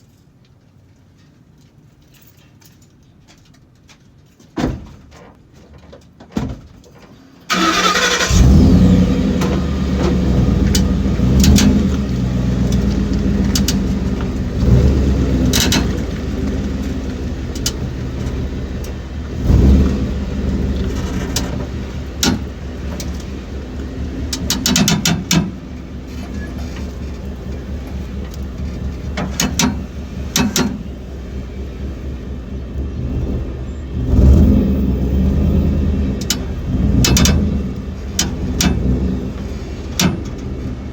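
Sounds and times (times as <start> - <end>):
pickup engine running: 7.5 - 40.9.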